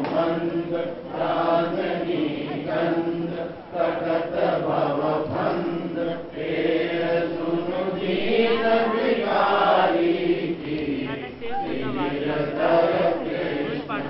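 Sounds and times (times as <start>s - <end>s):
devotional chanting: 0.0s - 14.0s.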